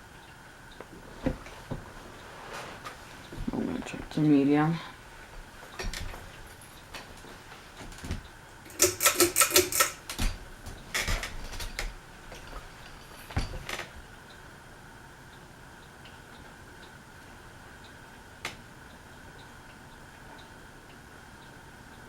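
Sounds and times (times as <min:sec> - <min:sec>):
ceiling fan humming: 0:00.0 - 0:22.0.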